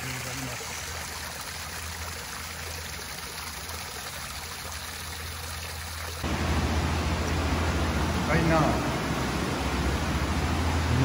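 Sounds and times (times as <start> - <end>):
hot spring water trickling: 0.0 - 11.0.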